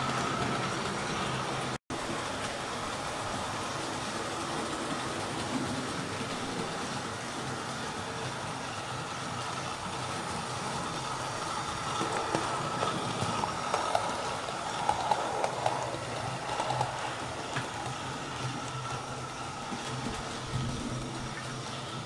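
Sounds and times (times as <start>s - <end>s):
model train motor and wheel hum: 0.0s - 22.0s
wheels clicking over rail joints: 0.0s - 22.0s.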